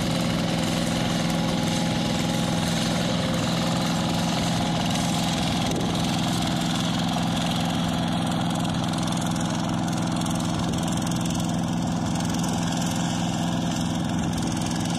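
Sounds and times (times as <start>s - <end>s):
hand tractor engine running: 0.0s - 14.9s.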